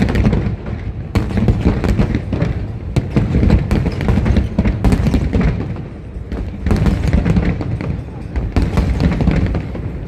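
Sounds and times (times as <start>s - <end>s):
fireworks bangs and thuds: 0.0s - 10.0s.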